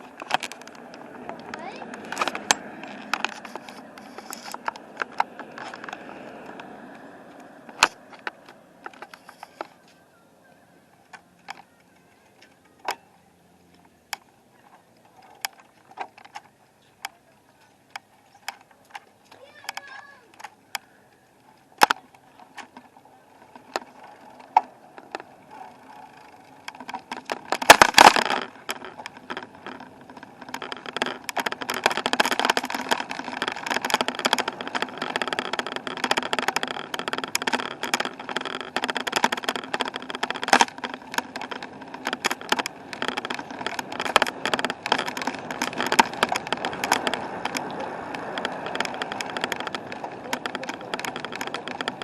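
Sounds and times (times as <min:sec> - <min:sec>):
bicycle rattling and rolling: 0:00.0 - 0:52.0.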